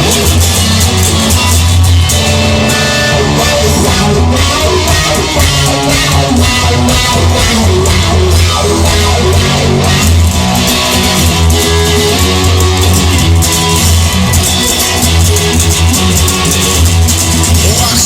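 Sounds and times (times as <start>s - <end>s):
guitars strumming: 0.0s - 18.0s
steady bass line: 0.0s - 18.0s.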